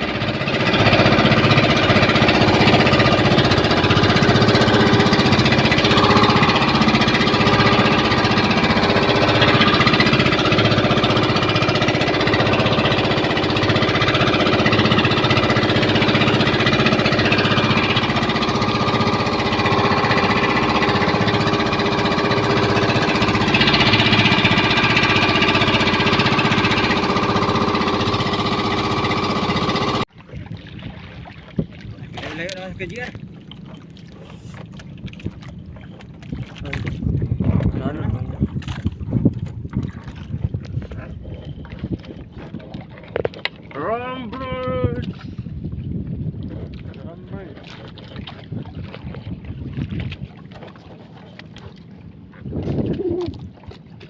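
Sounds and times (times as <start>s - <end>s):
small boat engine pulsing: 0.0s - 54.0s.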